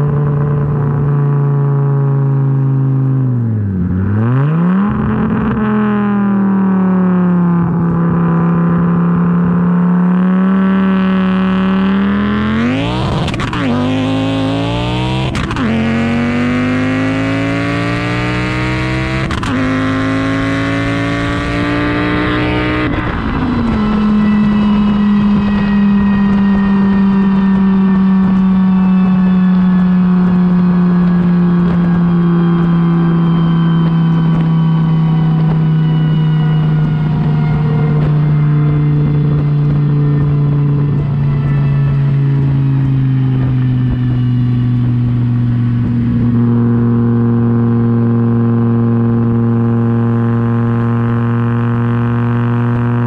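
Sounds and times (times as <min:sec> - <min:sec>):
car engine exhaust note: 0:00.0 - 0:53.0.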